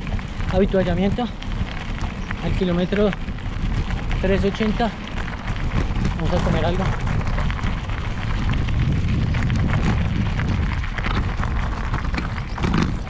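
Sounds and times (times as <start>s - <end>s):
crackling and rustling: 0.0s - 13.0s
wind buffeting microphone: 0.0s - 13.0s.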